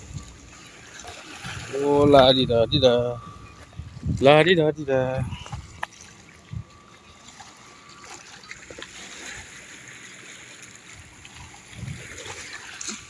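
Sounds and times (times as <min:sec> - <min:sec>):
sea water lapping at shoreline: 0:00.0 - 0:13.0.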